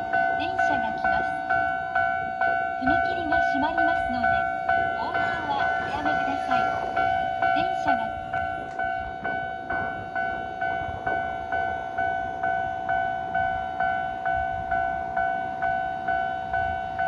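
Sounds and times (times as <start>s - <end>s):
faint train rumble and wheel clicks: 0.0s - 17.0s
level crossing warning bell: 0.0s - 17.0s.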